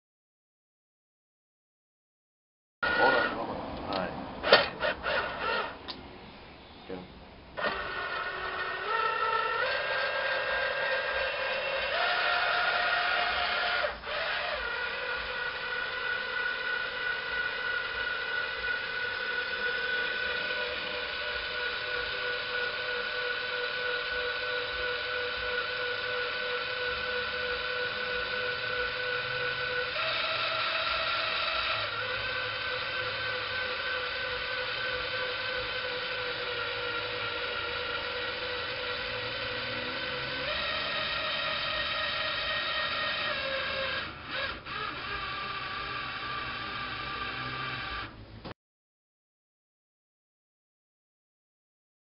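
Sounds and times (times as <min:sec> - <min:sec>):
power drill motor whining: 0:02.8 - 0:05.9, 0:07.6 - 0:48.2.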